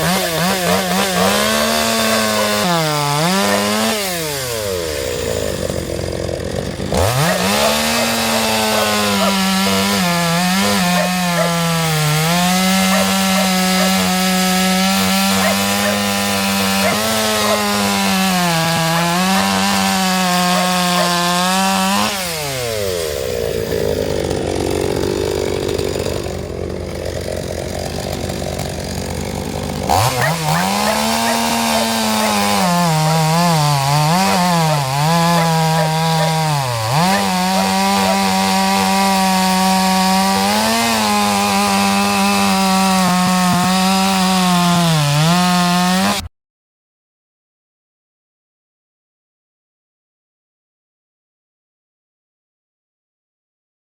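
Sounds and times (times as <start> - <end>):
chainsaw cutting wood: 0.0 - 46.3.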